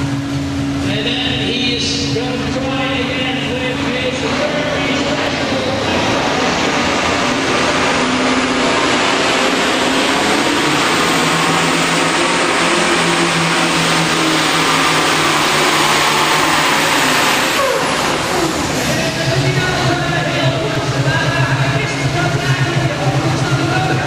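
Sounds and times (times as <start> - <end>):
truck engine at full throttle: 0.0 - 24.0.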